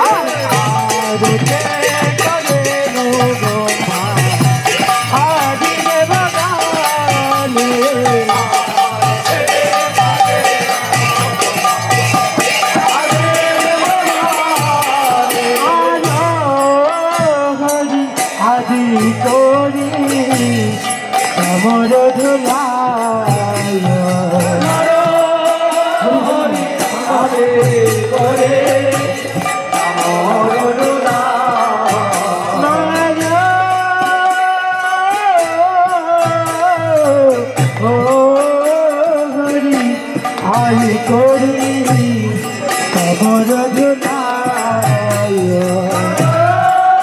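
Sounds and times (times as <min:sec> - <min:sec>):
devotional chanting to melody: 0:00.0 - 0:47.0
jingling hand cymbals: 0:00.0 - 0:47.0.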